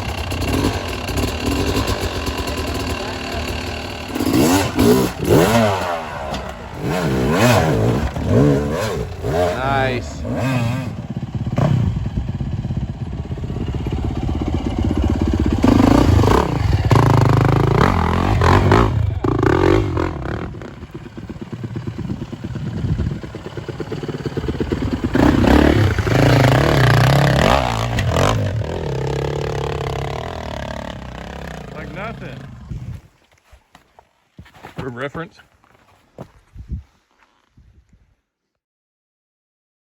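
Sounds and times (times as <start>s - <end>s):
motorcycle engine revving hard: 0.0s - 32.9s.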